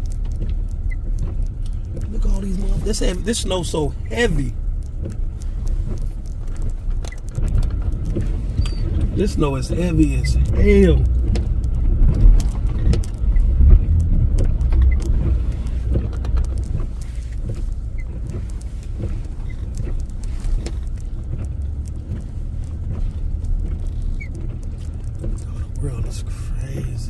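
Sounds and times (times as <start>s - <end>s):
light clicks and knocks: 0.0s - 27.0s
vehicle rumbling through snow: 0.0s - 27.0s.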